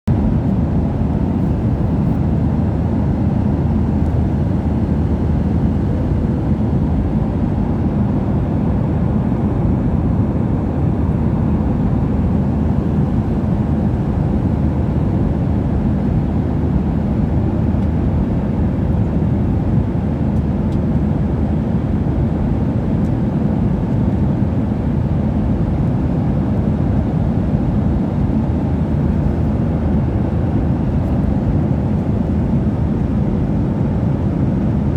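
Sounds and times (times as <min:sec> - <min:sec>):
airliner cabin engine rumble: 0:00.1 - 0:34.9.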